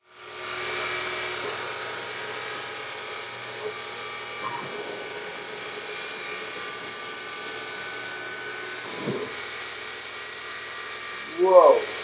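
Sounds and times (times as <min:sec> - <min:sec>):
milling machine whining: 0:00.0 - 0:12.0.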